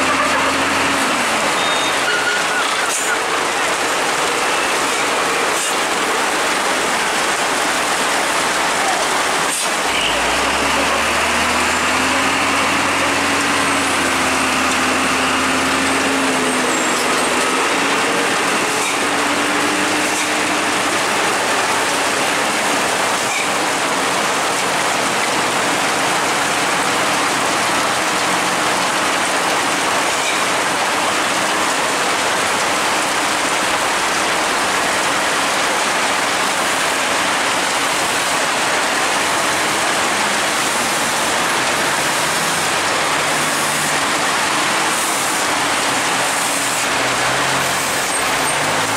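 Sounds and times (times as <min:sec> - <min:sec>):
heavy rain hiss: 0:00.0 - 0:48.9.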